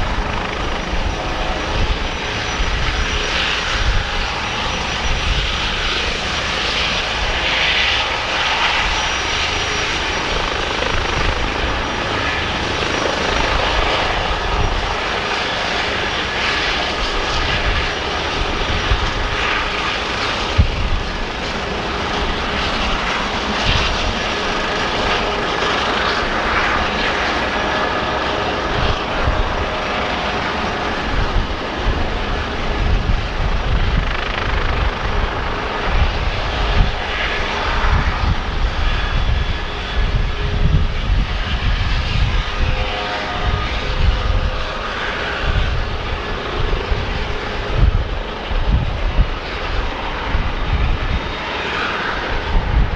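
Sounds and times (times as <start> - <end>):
helicopter engine and rotor: 0.0 - 52.9.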